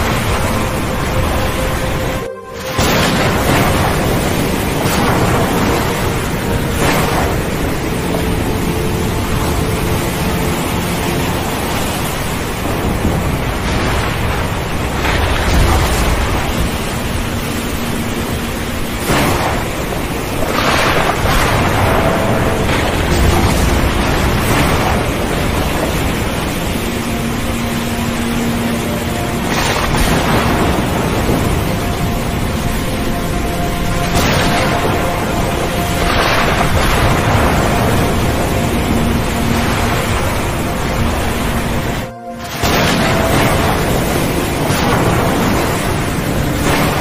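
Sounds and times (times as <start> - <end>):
waves breaking: 0.0 - 47.0
wind: 0.0 - 47.0.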